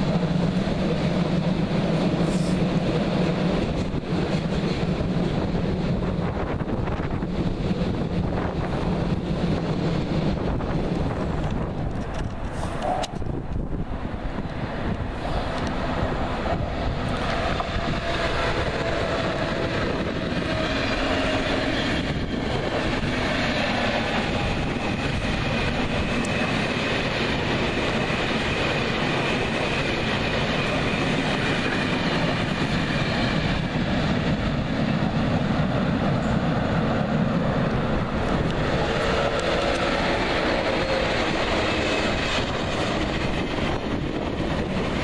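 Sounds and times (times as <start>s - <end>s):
train wheels clattering on rails: 0.0s - 45.0s.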